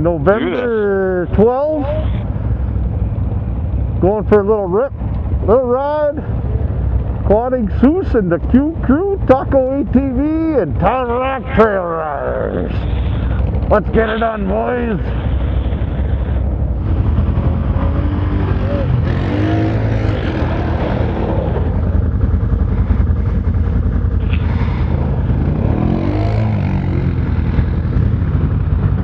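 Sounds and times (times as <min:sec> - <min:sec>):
atv engines revving: 0:00.0 - 0:29.0.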